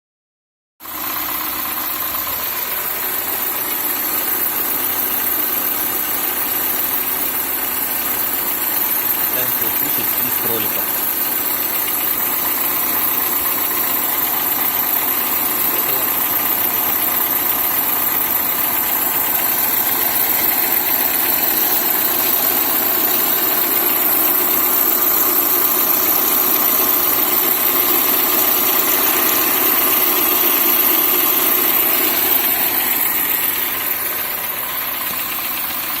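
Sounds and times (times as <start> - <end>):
car engine running: 0.8 - 36.0
drive belt pulleys whining: 0.9 - 36.0.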